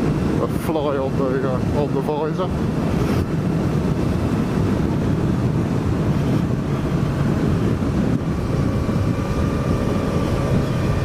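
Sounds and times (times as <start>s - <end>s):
wind rushing over microphone: 0.0s - 11.0s
motorcycle engine running: 1.8s - 11.0s.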